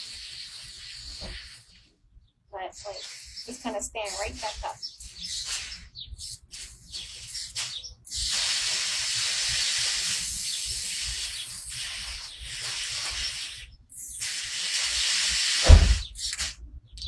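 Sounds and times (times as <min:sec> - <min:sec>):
water spraying from a nozzle: 0:00.0 - 0:01.9, 0:02.8 - 0:16.6.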